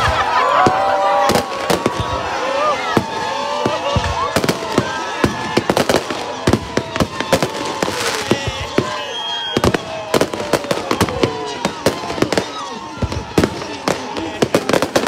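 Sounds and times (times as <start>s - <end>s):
fireworks bangs and crackles: 0.0s - 15.0s
voices: 0.0s - 15.0s.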